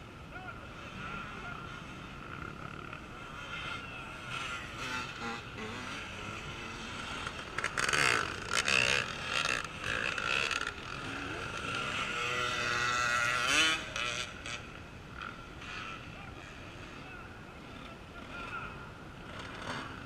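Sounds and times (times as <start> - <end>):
off-road motorcycles revving: 0.0 - 20.0.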